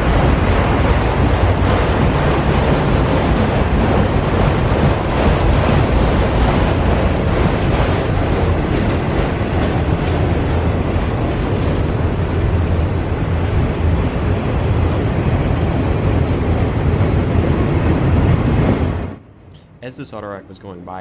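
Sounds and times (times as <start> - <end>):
train wheels rumbling on rail: 0.0 - 19.2.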